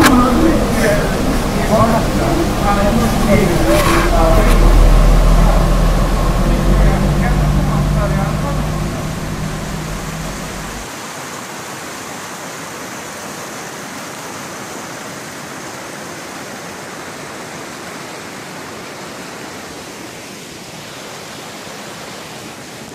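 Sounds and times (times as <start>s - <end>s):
stream rushing over rocks: 0.0s - 22.9s.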